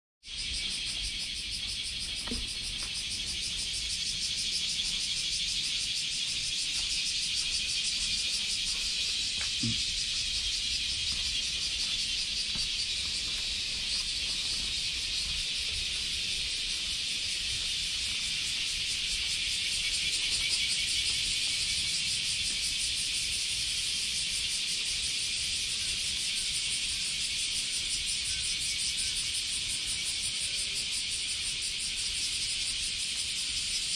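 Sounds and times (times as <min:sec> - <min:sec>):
cicadas singing: 0:00.2 - 0:33.9.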